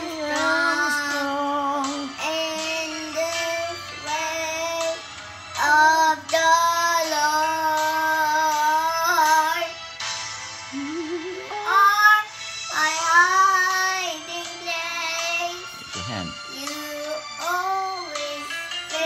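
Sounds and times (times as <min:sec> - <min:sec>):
boy singing into a microphone: 0:00.0 - 0:05.0, 0:05.6 - 0:09.7, 0:11.6 - 0:19.0.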